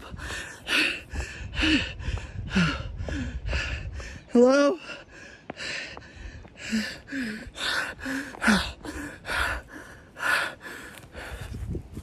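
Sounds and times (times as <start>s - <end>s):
man gasping for breath: 0.0s - 12.0s.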